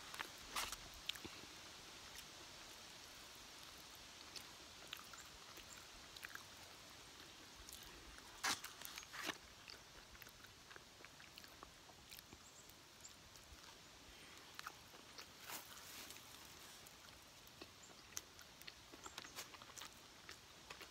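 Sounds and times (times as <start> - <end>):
chewing fried chicken: 0.1 - 1.5, 2.1 - 20.9
small crackles: 3.6 - 20.9.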